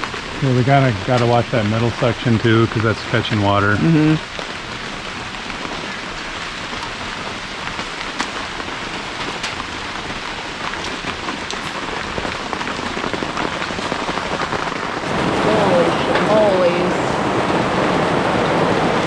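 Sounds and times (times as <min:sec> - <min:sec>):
torrential rain: 0:00.0 - 0:19.0.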